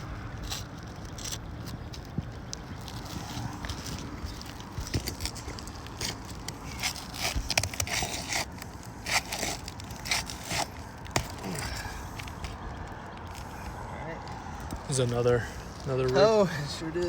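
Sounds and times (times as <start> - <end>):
roof shingle tearing: 0.0 - 17.0.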